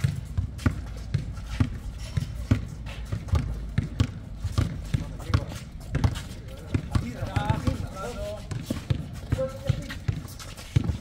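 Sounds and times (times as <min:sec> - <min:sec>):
basketball bouncing: 0:00.0 - 0:11.0
sneakers thudding and scuffing on court: 0:00.0 - 0:11.0.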